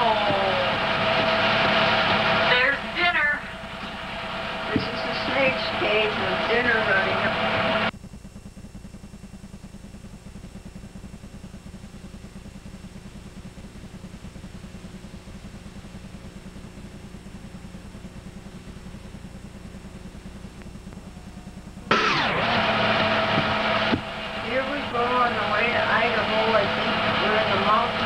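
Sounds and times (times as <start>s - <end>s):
loud noise burst with falling whine: 0.0s - 7.9s, 8.6s - 28.0s
low mechanical hum with flutter: 0.0s - 28.0s.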